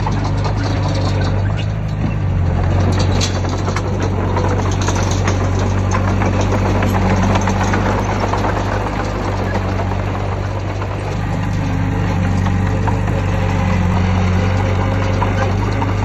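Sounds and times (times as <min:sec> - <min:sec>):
heavy diesel engine running: 0:00.0 - 0:16.0
metal clanks and rattles: 0:00.0 - 0:16.0.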